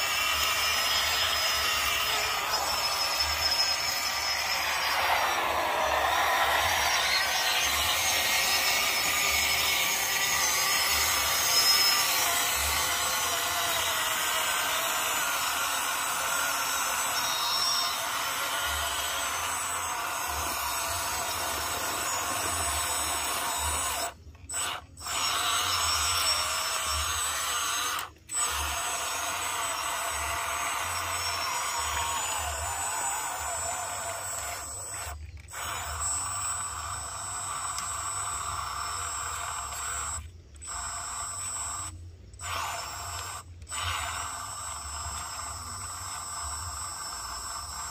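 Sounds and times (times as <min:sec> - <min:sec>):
toy truck electric motor whining: 0:00.0 - 0:47.9.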